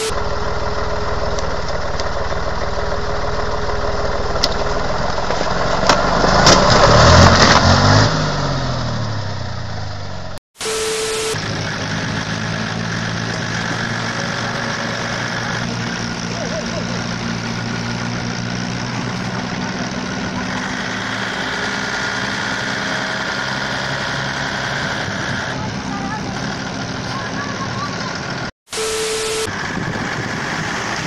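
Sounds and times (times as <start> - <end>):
high whine: 0.0 - 6.7, 8.3 - 31.0
dump truck diesel engine running: 0.0 - 31.0.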